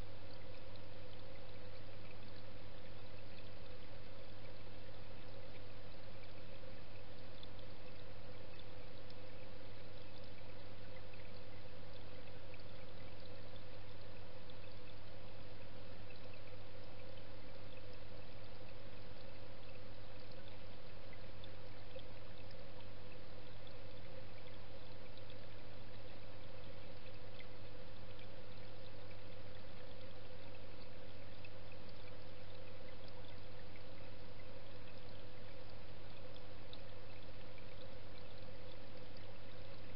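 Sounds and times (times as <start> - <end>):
water flowing underwater: 0.0 - 39.9.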